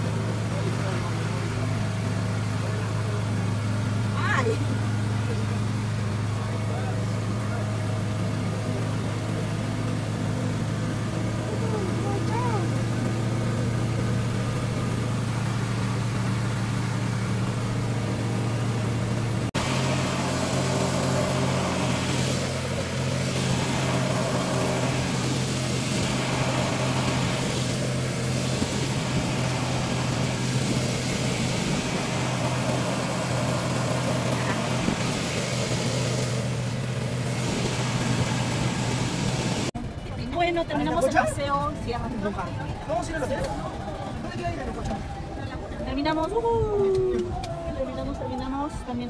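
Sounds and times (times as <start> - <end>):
wind and water hiss: 0.0 - 39.8
boat motor droning: 0.0 - 49.0.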